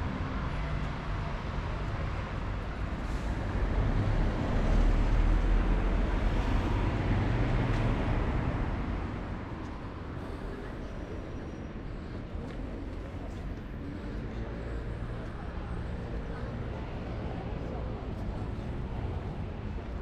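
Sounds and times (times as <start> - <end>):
city traffic din: 0.0 - 20.0.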